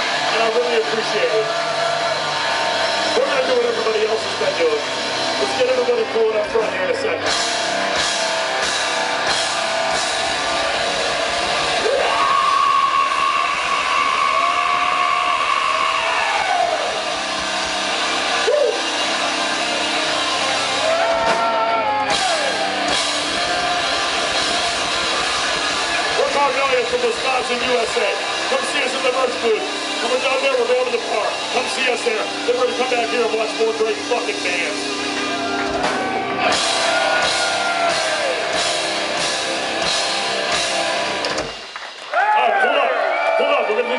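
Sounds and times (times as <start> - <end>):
distorted electric guitar bending: 0.0 - 41.8
live rock band playing: 0.0 - 42.1
drums: 0.0 - 43.9.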